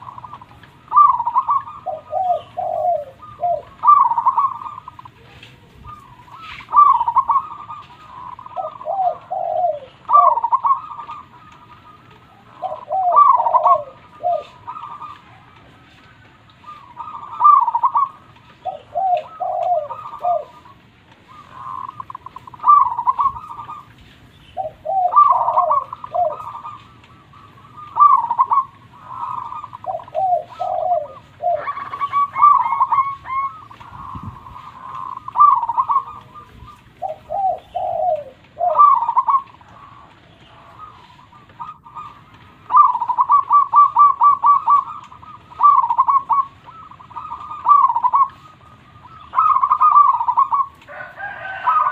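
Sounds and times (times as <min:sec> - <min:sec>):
dove cooing song: 0:00.0 - 0:51.9.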